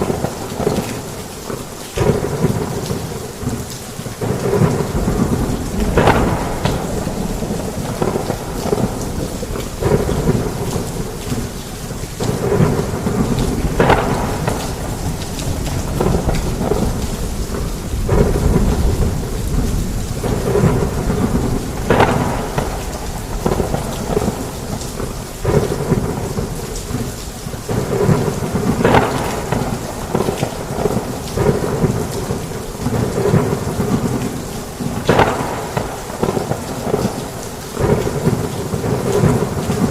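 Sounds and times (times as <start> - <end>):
heavy rain falling: 0.0 - 39.9
rolling thunder: 2.0 - 39.9.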